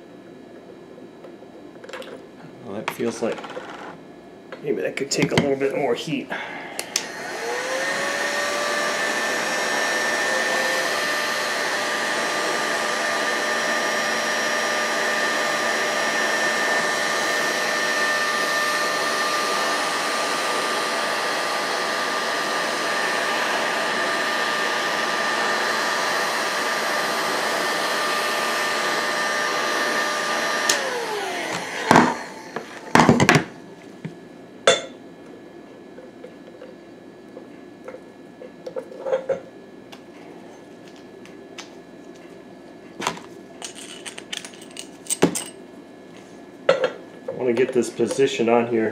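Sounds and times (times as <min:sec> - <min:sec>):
heat gun fan whine: 0:00.0 - 0:48.9.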